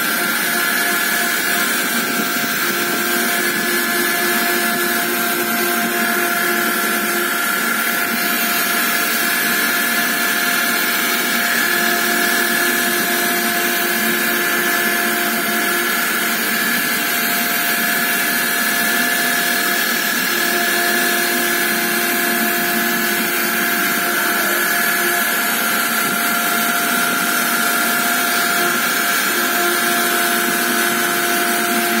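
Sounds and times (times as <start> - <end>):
engraving machine spindle whine: 0.0 - 32.0.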